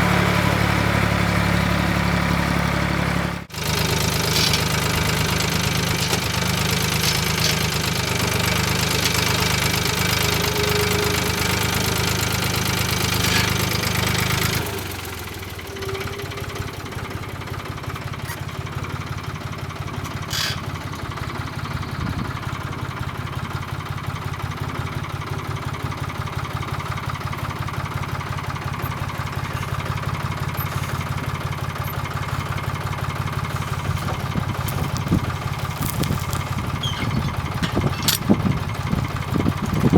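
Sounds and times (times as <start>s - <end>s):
tractor engine revving and idling: 0.0s - 39.9s.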